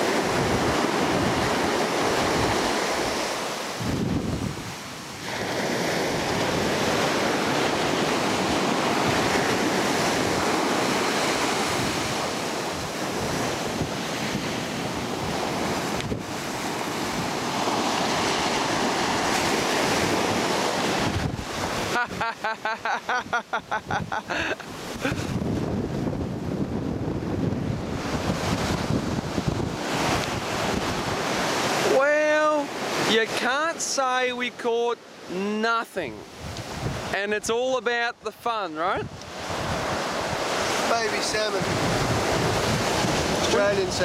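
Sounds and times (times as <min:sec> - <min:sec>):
wind buffeting microphone: 0:00.0 - 0:22.2, 0:23.2 - 0:31.8, 0:36.3 - 0:37.2, 0:38.9 - 0:44.0
ocean surf washing ashore: 0:00.0 - 0:44.0.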